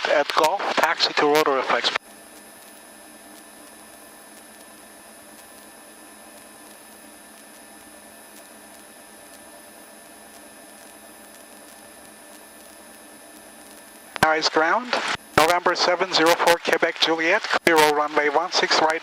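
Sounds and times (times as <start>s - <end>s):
electrical hiss and hum: 0.0s - 19.0s
thin whine tones: 0.1s - 19.0s.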